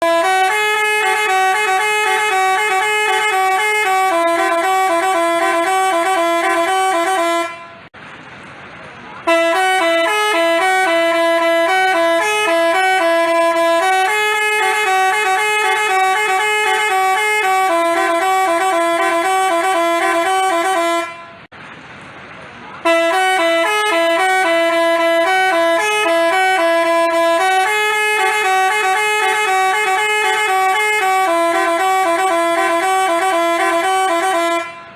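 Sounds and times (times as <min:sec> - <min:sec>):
bus horn playing multi-note tune: 0:00.0 - 0:07.9, 0:09.2 - 0:21.5, 0:22.8 - 0:34.9.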